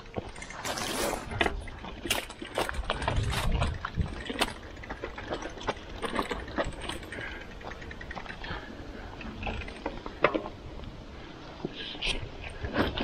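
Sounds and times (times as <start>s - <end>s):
bike frame and chain rattling: 0.0s - 11.1s.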